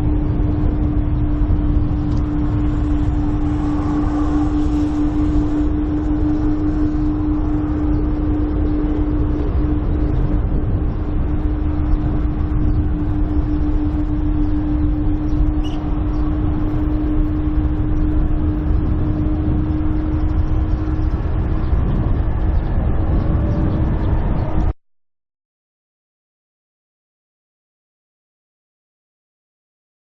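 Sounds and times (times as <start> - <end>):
jet engines rumbling: 0.0 - 24.8.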